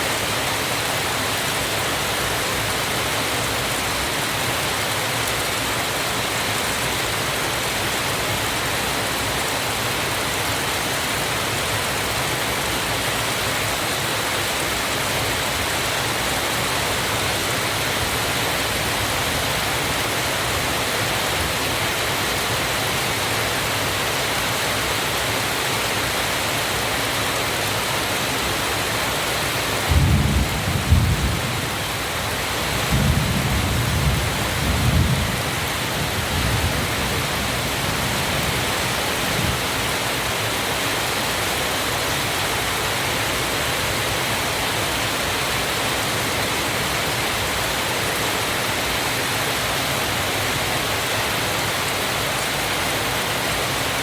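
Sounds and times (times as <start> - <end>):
waterfall rushing: 0.0 - 30.0, 35.4 - 54.0.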